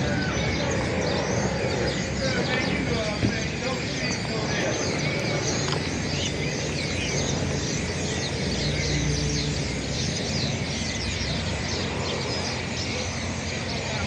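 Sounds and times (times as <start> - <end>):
flock of birds chirping: 0.0 - 14.0
steady low rumble: 0.0 - 14.0.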